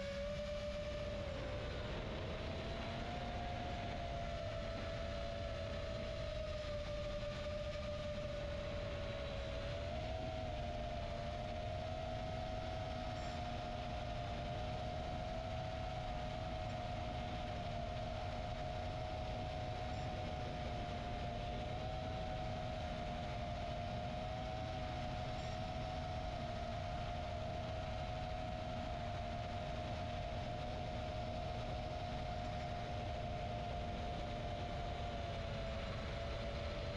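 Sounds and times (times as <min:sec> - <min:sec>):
quadcopter motors whining: 0:00.0 - 0:36.9.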